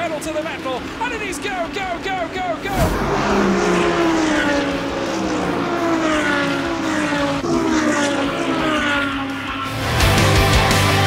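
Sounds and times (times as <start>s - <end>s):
race cars passing at speed: 0.0s - 11.0s.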